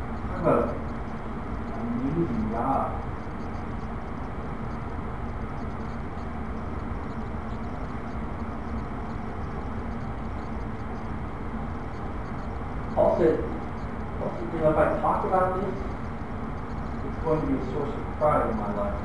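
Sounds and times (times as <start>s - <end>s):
faint constant hum: 0.0s - 19.0s
low rumbling background noise: 0.0s - 19.0s.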